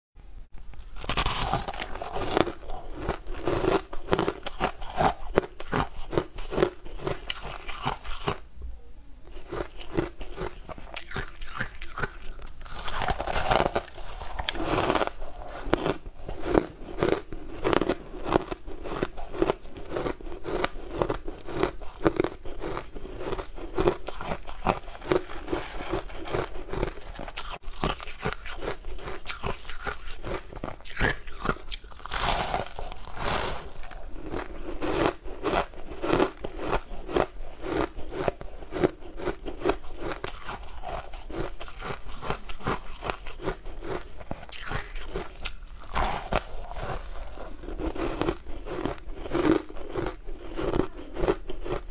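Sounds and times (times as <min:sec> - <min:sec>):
chewing crushed ice: 0:00.8 - 0:08.4, 0:09.3 - 0:51.9.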